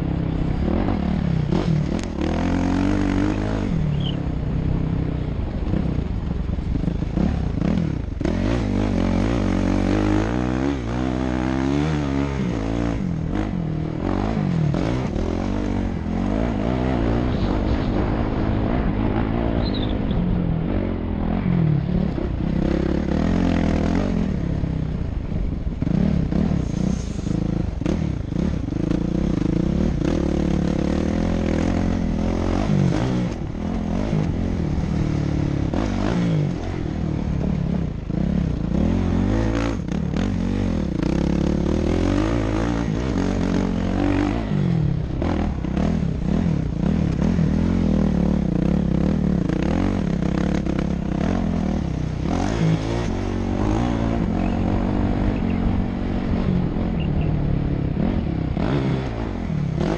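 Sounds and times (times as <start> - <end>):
dirt bike engine revving: 0.0 - 4.4, 5.2 - 59.9.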